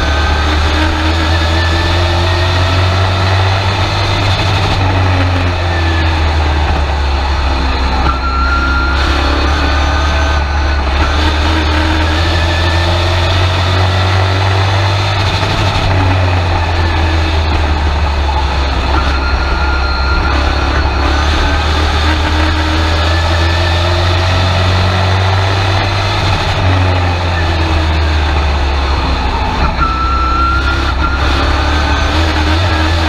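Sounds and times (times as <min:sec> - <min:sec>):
race truck engine revving: 0:00.0 - 0:33.0.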